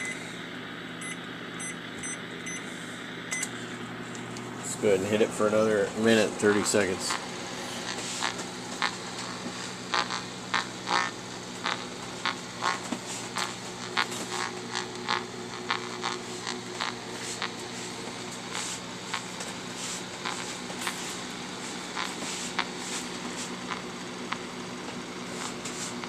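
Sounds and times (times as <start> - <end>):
microwave oven humming: 0.0 - 26.0
radio static crackles: 4.5 - 26.0.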